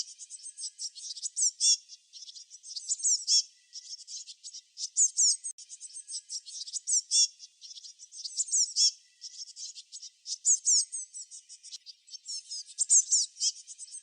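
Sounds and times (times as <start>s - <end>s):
songbirds chirping in chorus: 0.0s - 14.0s.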